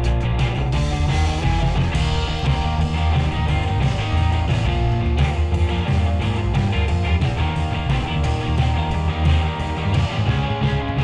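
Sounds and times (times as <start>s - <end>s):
electric guitar: 0.0s - 11.0s
rock and roll band playing: 0.0s - 11.0s
upright bass line: 0.0s - 11.0s.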